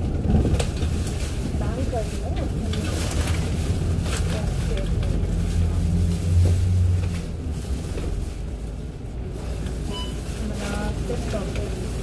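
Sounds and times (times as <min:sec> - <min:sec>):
bus engine: 0:00.0 - 0:12.0
city traffic rumble: 0:00.0 - 0:12.0.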